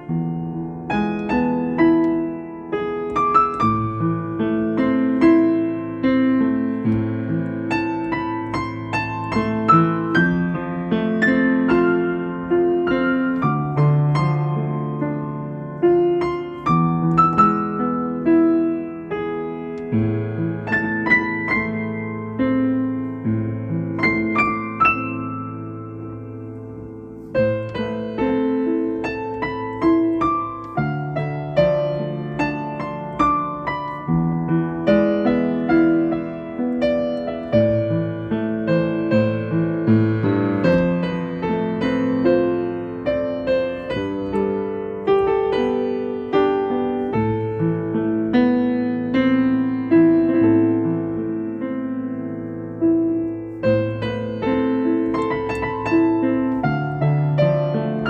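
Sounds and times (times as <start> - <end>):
slow solo piano: 0.0 - 58.0.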